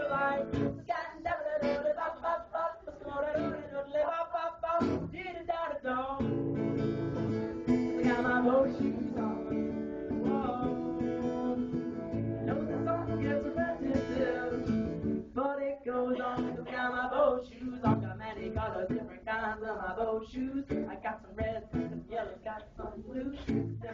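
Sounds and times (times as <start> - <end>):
person singing: 0.0 - 6.4, 7.4 - 23.9
strummed acoustic guitar: 0.0 - 23.9.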